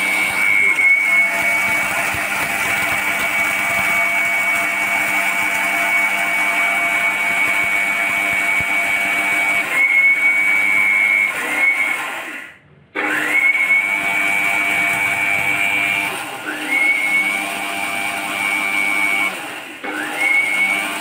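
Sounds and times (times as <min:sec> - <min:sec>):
mixer grinder motor whine: 0:00.0 - 0:21.0.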